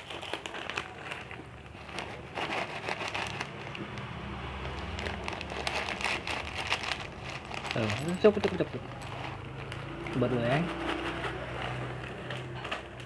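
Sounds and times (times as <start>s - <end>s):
plastic packet crinkling: 0.0s - 13.0s.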